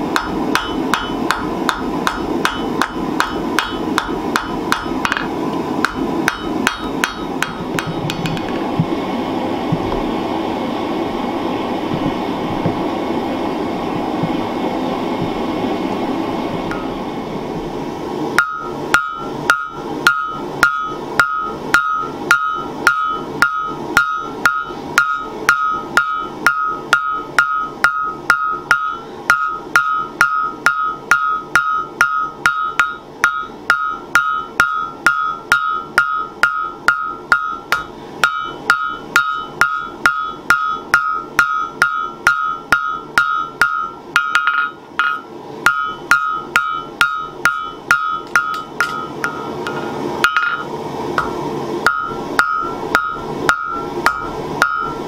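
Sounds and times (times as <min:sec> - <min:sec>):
hammer striking steel on anvil: 0:00.1 - 0:08.6, 0:18.4 - 0:55.0.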